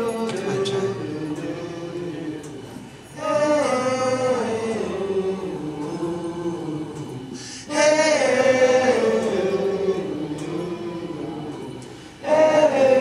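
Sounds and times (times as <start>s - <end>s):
voices singing a slow chant: 0.0s - 13.0s.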